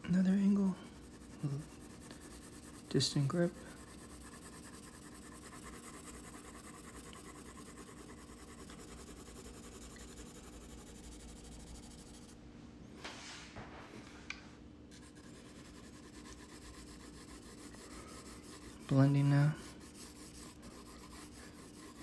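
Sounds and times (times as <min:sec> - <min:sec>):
pencil shading on paper: 0:00.0 - 0:12.3, 0:14.9 - 0:22.0.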